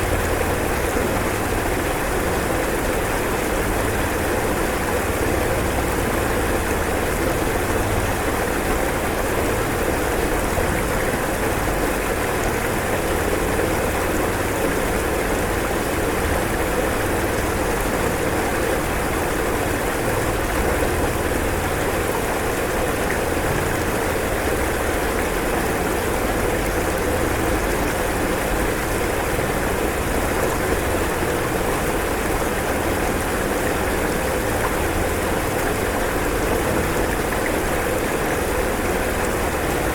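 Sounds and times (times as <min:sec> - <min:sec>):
rushing floodwater: 0:00.0 - 0:39.9.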